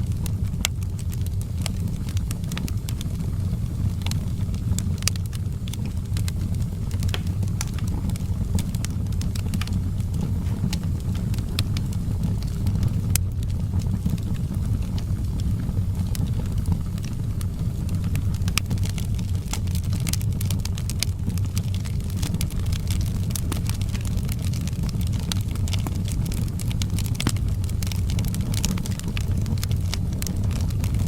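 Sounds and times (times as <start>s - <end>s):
steady low rumble: 0.0s - 31.0s
wood fire crackling: 0.0s - 31.0s.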